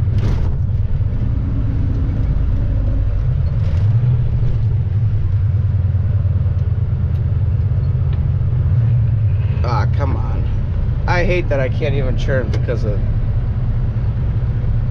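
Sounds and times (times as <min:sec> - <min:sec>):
truck diesel engine droning: 0:00.0 - 0:14.9.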